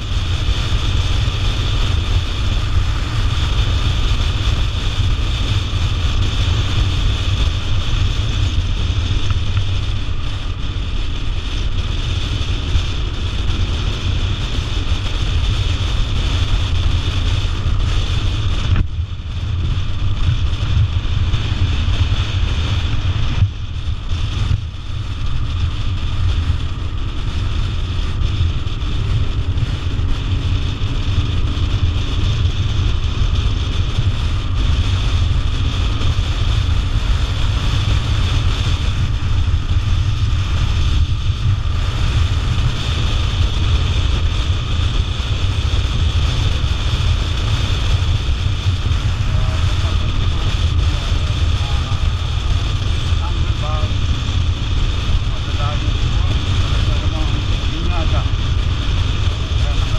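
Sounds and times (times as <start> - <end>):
motorcycle engine and tyre noise: 0.0 - 59.9
wind rushing over microphone: 0.0 - 59.9.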